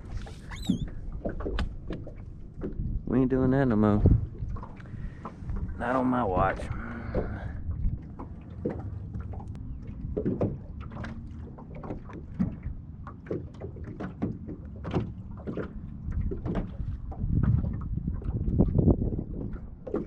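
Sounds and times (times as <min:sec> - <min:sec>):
low steady rumble: 0:00.0 - 0:19.8
water lapping against boat hull: 0:00.0 - 0:20.0.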